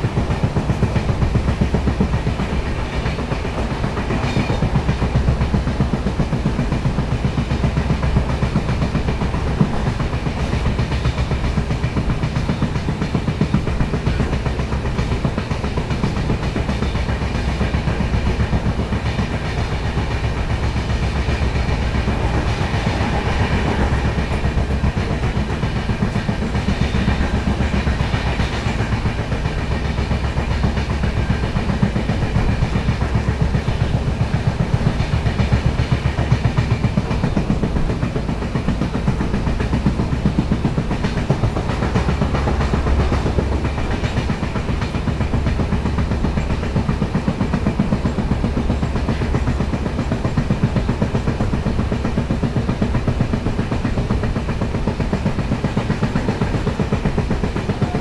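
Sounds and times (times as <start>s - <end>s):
rapid wheel pounding: 0.0s - 58.0s
train wheels rumbling on rail: 0.0s - 58.0s.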